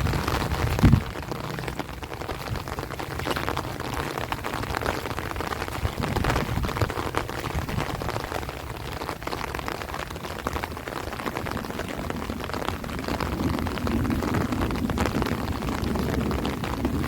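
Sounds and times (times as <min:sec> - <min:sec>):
heavy rain on leaves: 0:00.0 - 0:17.0
strong wind rumble: 0:00.0 - 0:17.0.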